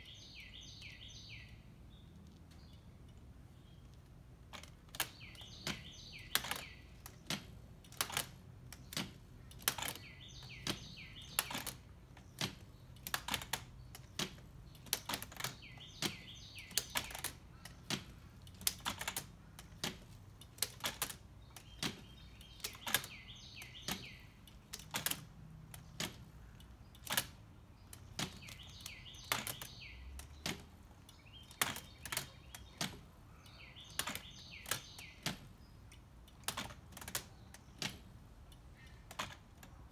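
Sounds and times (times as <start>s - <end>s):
birds chirping: 0.0s - 39.9s
wooden mechanism clacking: 0.3s - 39.9s.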